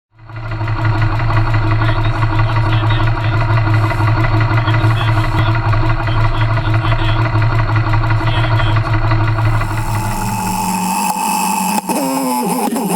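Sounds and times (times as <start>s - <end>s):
motorcycle engine idling: 0.2s - 10.6s.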